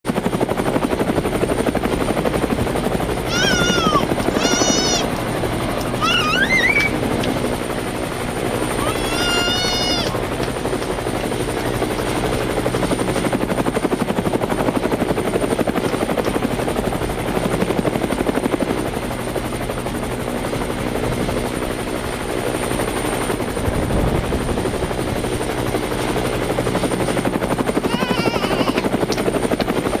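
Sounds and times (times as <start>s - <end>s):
helicopter engine noise: 0.1s - 30.0s
helicopter rotor chopping: 0.1s - 30.0s.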